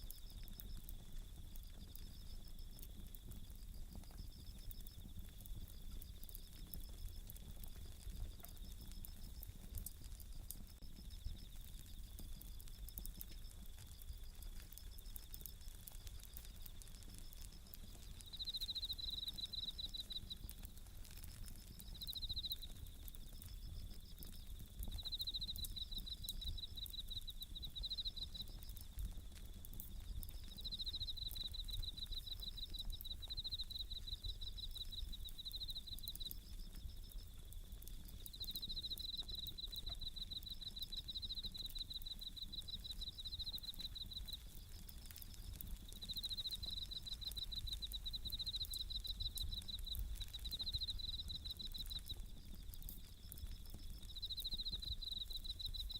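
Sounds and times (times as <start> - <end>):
campfire crackling and popping: 0.0 - 55.9
crickets chirping: 0.0 - 55.9.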